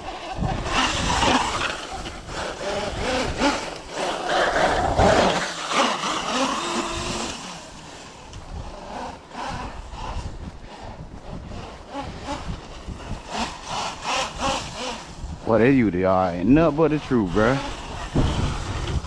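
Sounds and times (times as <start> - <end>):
rc truck motor whining: 0.0 - 15.5, 16.8 - 19.0.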